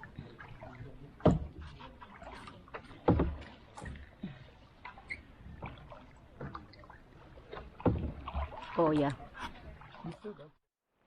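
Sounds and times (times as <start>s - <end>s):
paddle strokes splashing water: 0.0s - 10.6s.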